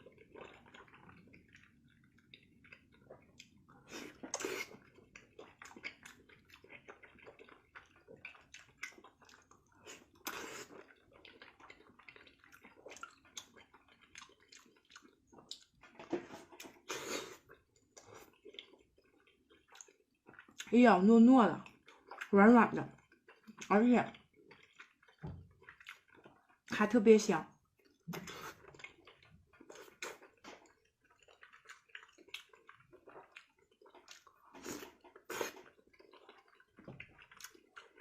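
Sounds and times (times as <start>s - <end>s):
wet chewing and lip-smacking: 0.0s - 20.7s, 21.6s - 26.7s, 27.5s - 38.0s.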